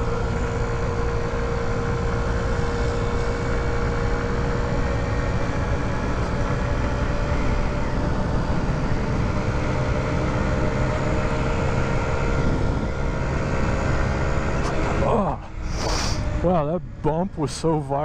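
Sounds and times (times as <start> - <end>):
scooter engine running: 0.0 - 18.0
wind and road noise: 0.0 - 18.0.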